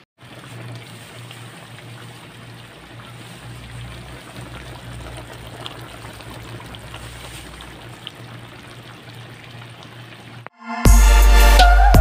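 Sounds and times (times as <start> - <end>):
soup bubbling with pops: 0.0 - 10.6
low steady hum: 0.2 - 10.5.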